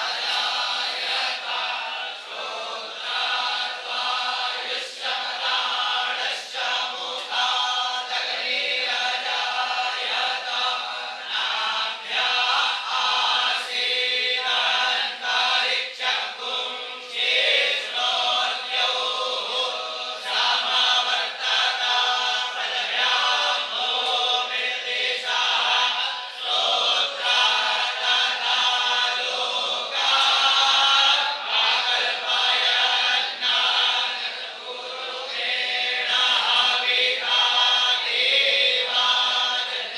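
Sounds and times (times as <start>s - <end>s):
children chanting in unison: 0.0s - 39.9s.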